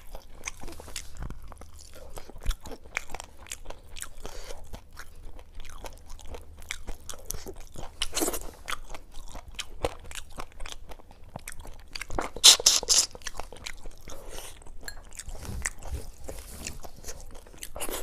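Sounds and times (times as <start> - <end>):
chewing and crunching fried fish: 0.0 - 18.0.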